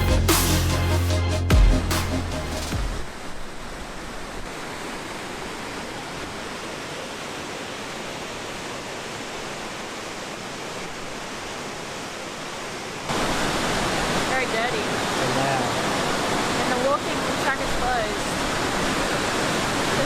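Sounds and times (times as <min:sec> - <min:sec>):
waterfall rushing: 0:01.9 - 0:20.0
close rush of water: 0:02.8 - 0:20.0.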